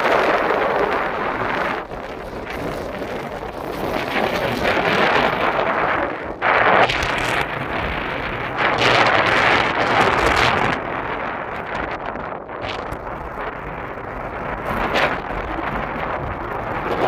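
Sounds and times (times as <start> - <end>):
wind blowing in gusts: 0.0 - 17.0.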